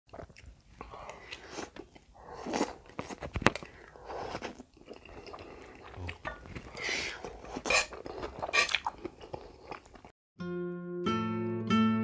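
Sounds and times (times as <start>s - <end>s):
wet chewing: 0.1s - 10.2s.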